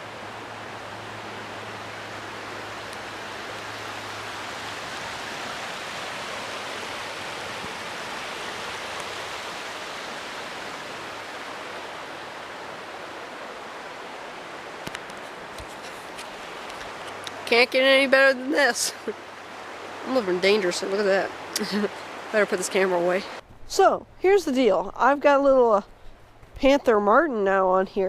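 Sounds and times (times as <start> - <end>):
mountain stream rushing: 0.0 - 24.9.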